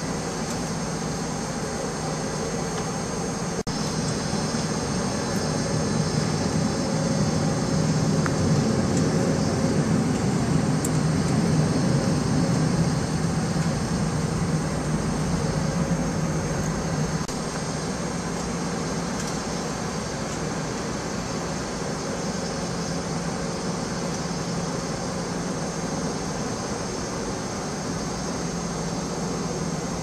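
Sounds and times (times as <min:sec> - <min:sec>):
aircraft cabin engine and air rush: 0:00.0 - 0:30.0.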